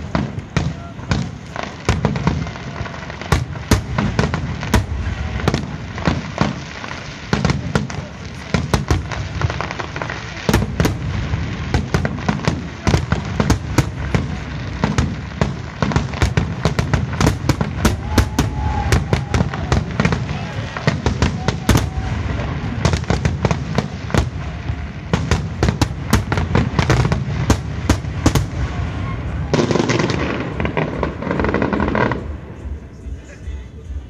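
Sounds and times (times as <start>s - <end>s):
firework bangs and crackles: 0.0s - 34.0s.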